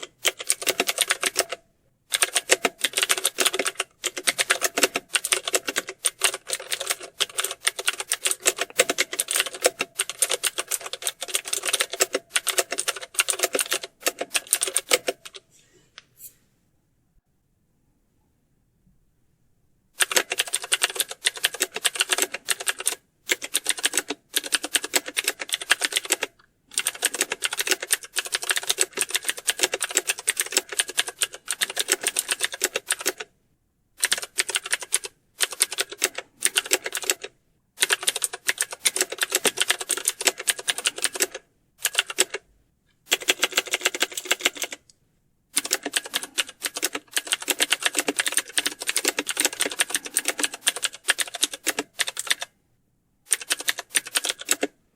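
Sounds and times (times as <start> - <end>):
fast keyboard typing: 0.0 - 15.4, 20.0 - 33.3, 34.0 - 42.4, 43.1 - 44.8, 45.5 - 52.5, 53.3 - 54.8.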